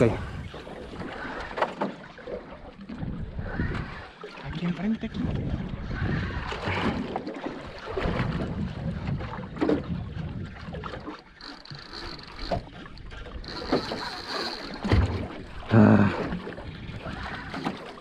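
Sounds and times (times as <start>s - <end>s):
wind buffeting microphone: 0.0s - 1.2s, 2.9s - 17.5s
water lapping against boat hull: 0.0s - 18.0s.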